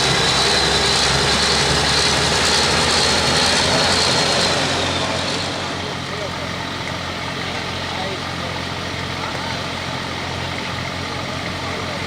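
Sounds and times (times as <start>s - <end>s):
high steady whine: 0.0s - 12.0s
tractor diesel engine at full power: 0.0s - 12.0s.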